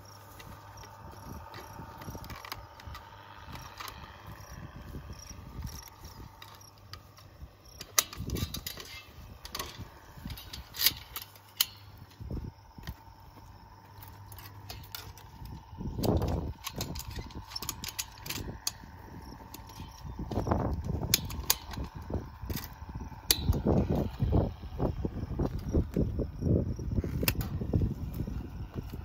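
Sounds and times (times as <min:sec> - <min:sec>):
low rumbles: 0:00.0 - 0:29.0
wire and tools clinking: 0:00.0 - 0:29.0.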